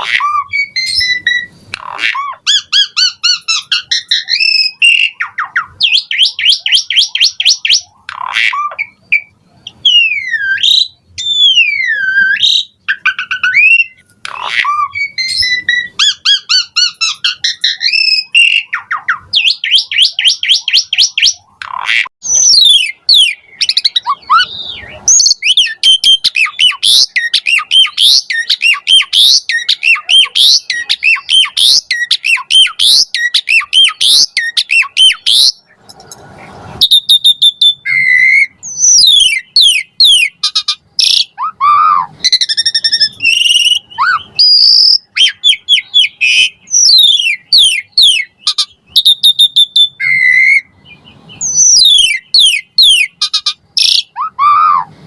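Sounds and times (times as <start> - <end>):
starling singing whistled notes: 0.0 - 35.7, 36.8 - 54.9.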